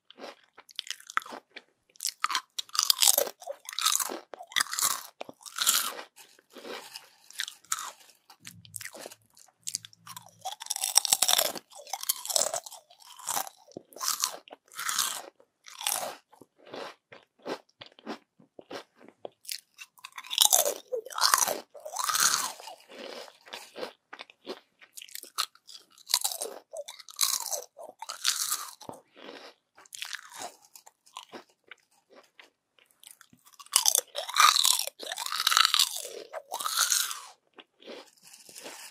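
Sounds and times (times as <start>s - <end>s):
crunching and chewing crispy chips: 0.0s - 38.9s.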